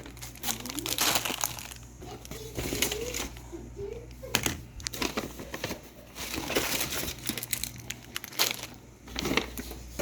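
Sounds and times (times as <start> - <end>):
grocery bag crinkling: 0.0 - 10.0.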